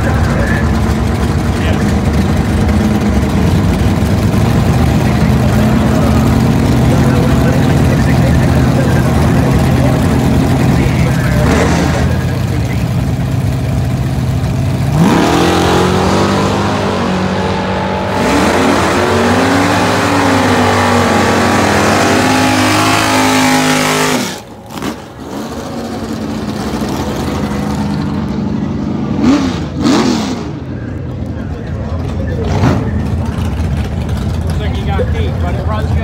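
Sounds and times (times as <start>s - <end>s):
drag cars at full throttle: 0.0s - 36.0s.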